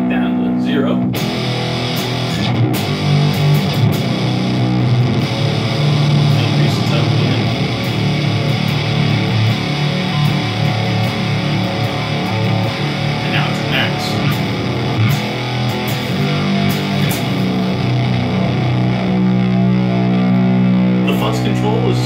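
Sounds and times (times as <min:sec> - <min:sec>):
fuzz electric guitar: 0:00.0 - 0:22.0.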